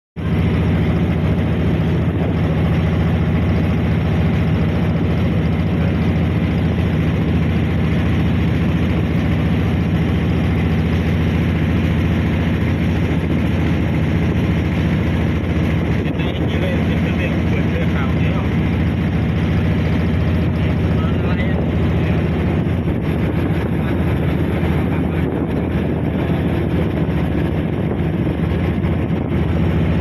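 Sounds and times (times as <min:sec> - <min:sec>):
boat engine droning: 0:00.2 - 0:30.0.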